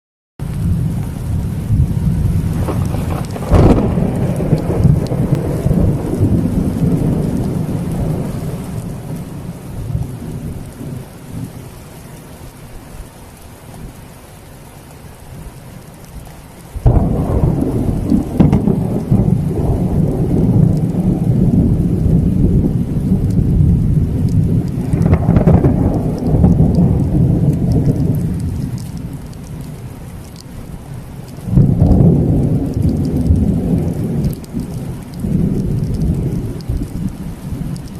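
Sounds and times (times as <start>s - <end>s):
thunder rumbling: 0.4s - 11.7s, 16.8s - 30.4s, 31.4s - 37.9s
rain falling: 0.4s - 37.9s.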